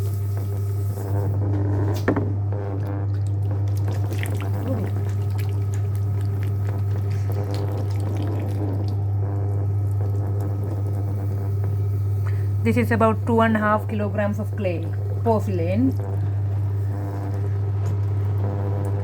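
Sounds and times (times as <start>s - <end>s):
pottery wheel motor hum: 0.0s - 19.0s.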